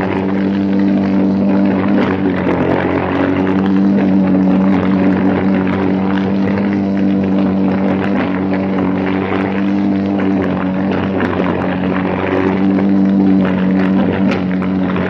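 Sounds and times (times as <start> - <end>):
kart engine running at high revs: 0.0 - 15.0.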